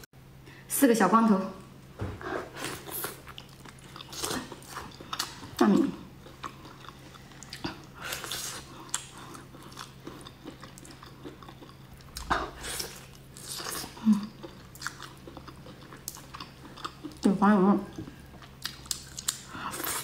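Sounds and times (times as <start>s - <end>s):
chewing mouth sounds: 2.6s - 5.6s, 6.2s - 17.3s, 17.9s - 20.0s.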